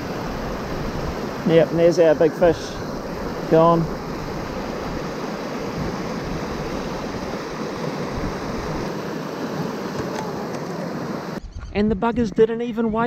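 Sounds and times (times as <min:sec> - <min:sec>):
river water rushing over rocks: 0:00.0 - 0:11.4.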